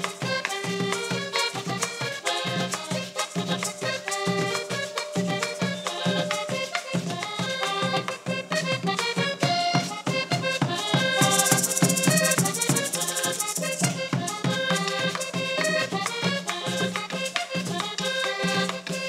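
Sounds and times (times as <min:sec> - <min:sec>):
rattle shaking: 0:00.0 - 0:07.9, 0:10.7 - 0:18.5
button accordion playing: 0:00.0 - 0:19.0
hand drum beat: 0:00.0 - 0:19.0.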